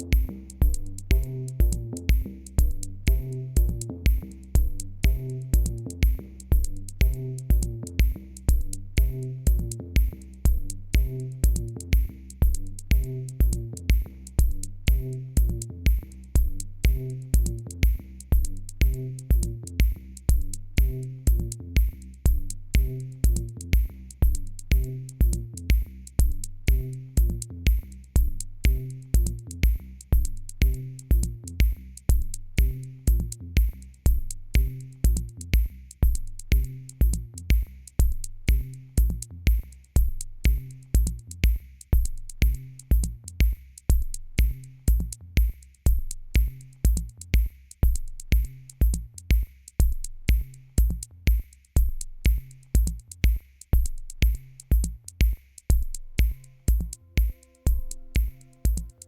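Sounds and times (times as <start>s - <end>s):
electronic music with drum-machine beat: 0.0s - 59.0s.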